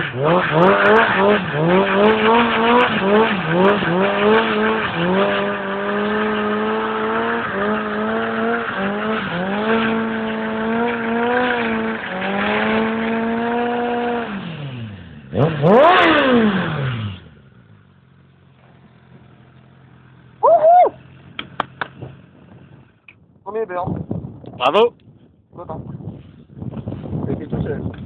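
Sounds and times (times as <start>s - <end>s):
motorcycle engine revving: 0.0s - 23.1s.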